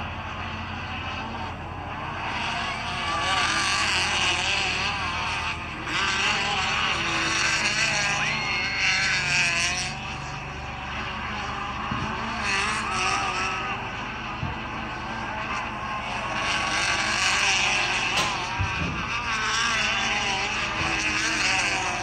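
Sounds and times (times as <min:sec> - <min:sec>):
race car engines running: 0:00.0 - 0:22.0.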